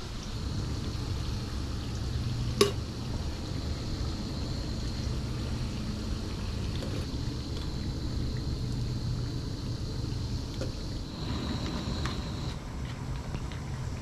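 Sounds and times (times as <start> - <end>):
low hum: 0.4 - 12.6.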